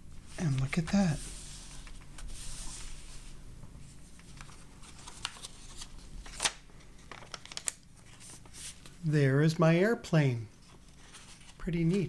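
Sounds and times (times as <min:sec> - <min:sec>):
paper rustling and crackling: 0:00.4 - 0:09.0, 0:10.6 - 0:12.0.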